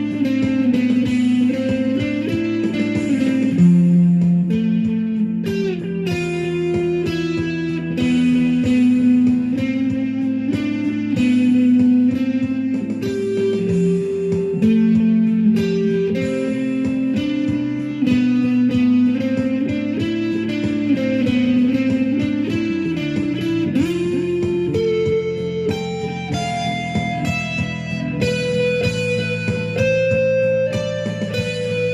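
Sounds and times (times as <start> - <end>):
electric guitar melody: 0.0 - 31.9
instrumental rock music: 0.0 - 31.9.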